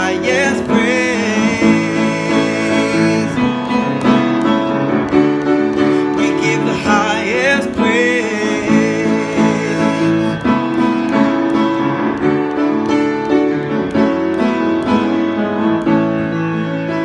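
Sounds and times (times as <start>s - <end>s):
keyboard playing worship chords: 0.0s - 17.0s.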